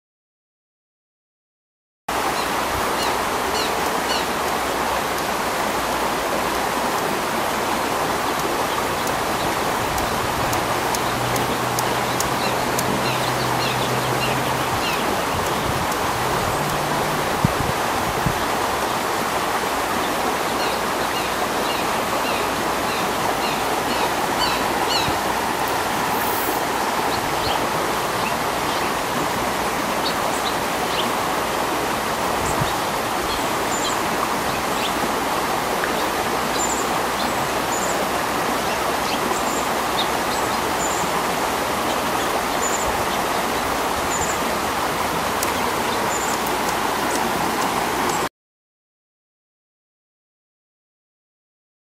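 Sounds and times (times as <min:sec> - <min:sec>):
steady rushing water: 0:02.1 - 0:48.3.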